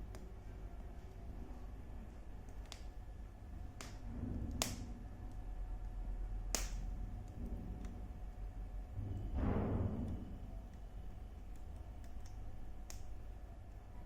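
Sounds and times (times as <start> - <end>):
fire popping: 0.0 - 13.8
wood fire crackling: 0.0 - 14.0.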